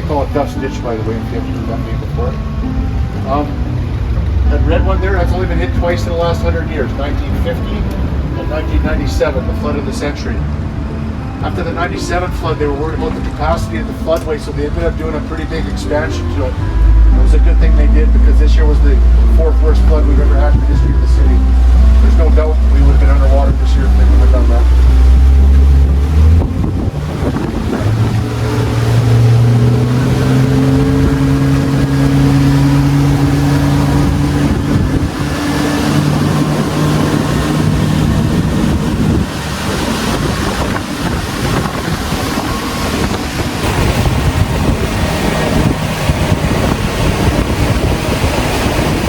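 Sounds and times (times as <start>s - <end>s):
boat motor running: 0.0s - 49.0s
water rushing past boat: 0.0s - 49.0s
wind buffeting microphone: 2.4s - 49.0s.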